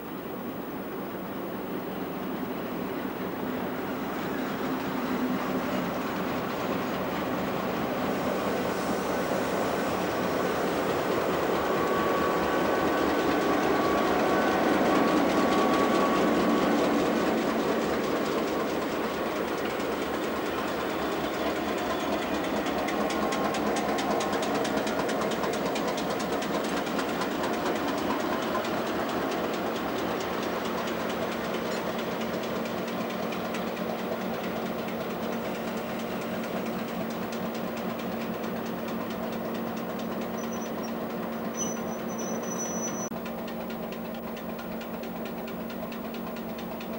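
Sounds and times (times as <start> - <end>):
diesel locomotives idling: 0.0 - 46.9.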